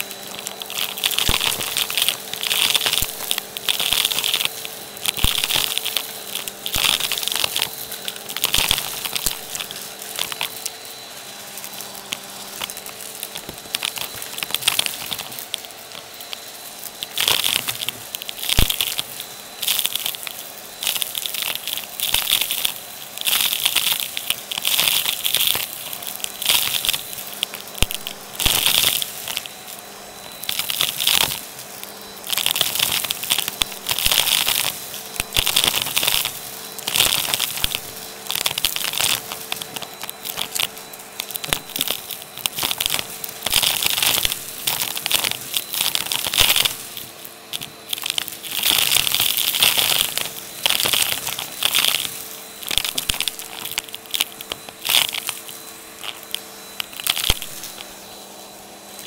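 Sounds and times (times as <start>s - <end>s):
debris rattling through vacuum hose: 0.0s - 59.0s
vacuum motor suction hum: 0.0s - 59.0s.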